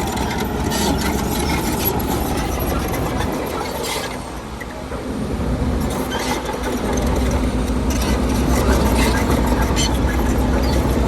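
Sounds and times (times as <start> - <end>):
earthmoving machinery diesel engine: 0.0 - 11.0.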